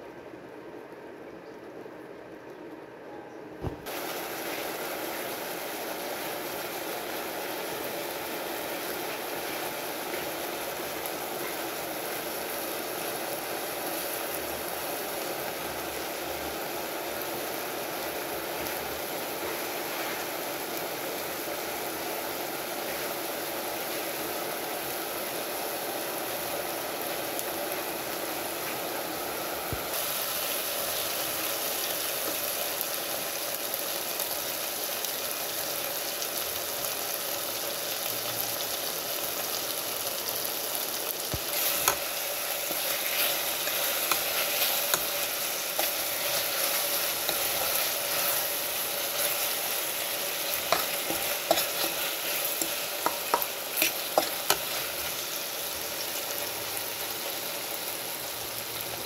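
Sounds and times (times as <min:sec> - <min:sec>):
meat sizzling in a pan: 0:03.8 - 0:59.0.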